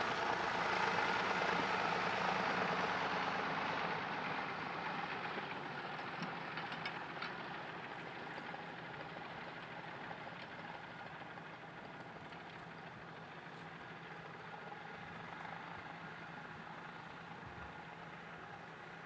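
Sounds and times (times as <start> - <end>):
farm machine engine running: 0.0 - 19.0.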